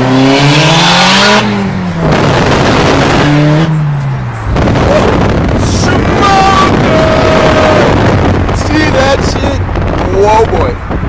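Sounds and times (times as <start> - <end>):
car engine revving under full throttle: 0.0 - 11.0
wind and road noise: 0.0 - 11.0.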